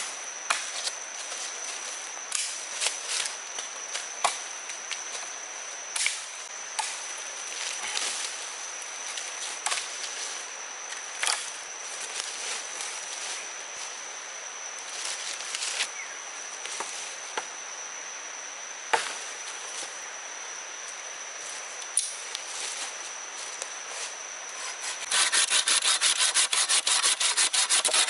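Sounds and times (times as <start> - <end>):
insect high-pitched drone: 0.0 - 28.0.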